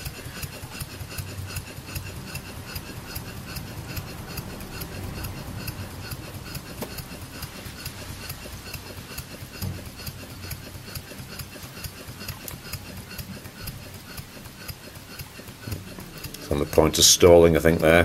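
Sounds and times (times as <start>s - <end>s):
steam engine exhaust puffs: 0.0s - 18.0s
valve gear clicks: 0.0s - 18.0s.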